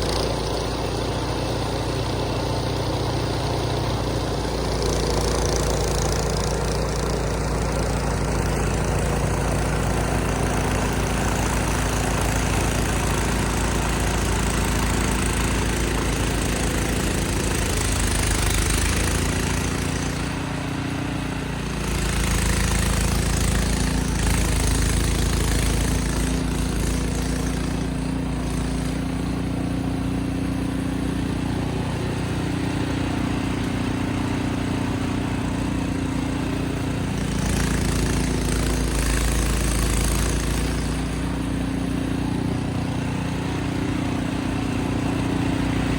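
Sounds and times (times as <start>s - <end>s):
snow blower engine running: 0.0s - 45.9s.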